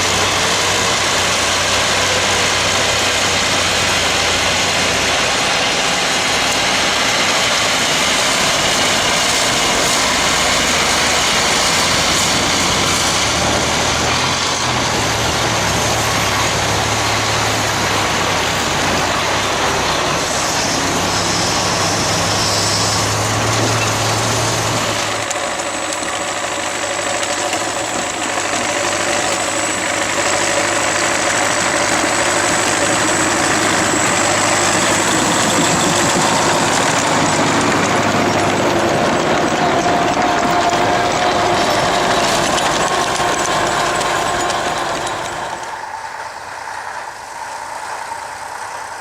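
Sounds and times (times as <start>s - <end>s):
engine humming: 0.0s - 49.0s.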